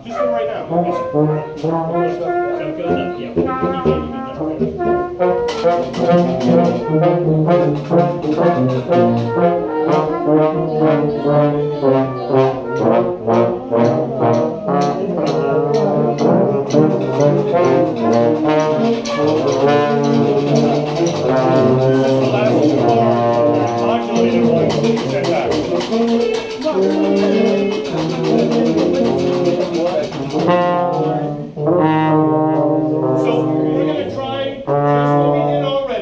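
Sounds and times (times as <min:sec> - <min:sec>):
brass band playing funk riff: 0:00.0 - 0:36.0
drum hits: 0:00.7 - 0:35.7.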